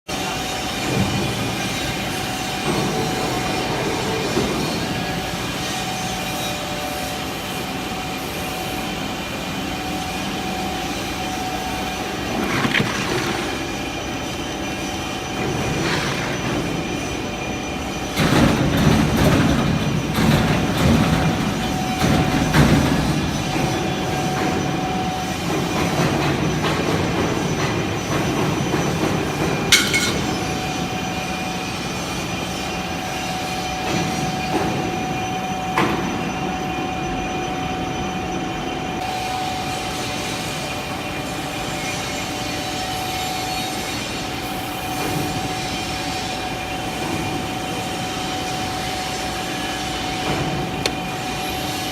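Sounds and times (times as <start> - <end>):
press brake machine whining: 0.2 - 51.9.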